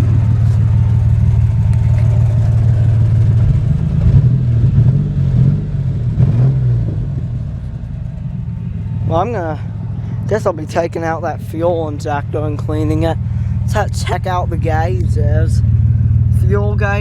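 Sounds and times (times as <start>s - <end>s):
car engine with loud exhaust: 0.0s - 17.0s.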